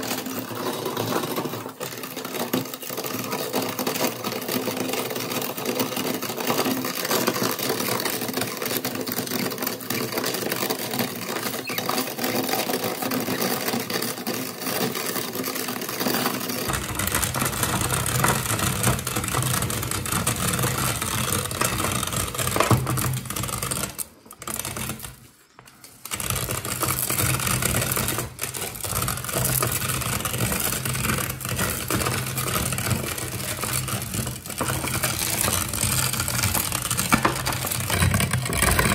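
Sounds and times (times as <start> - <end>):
meat grinder crunching dry spaghetti: 0.0 - 38.9.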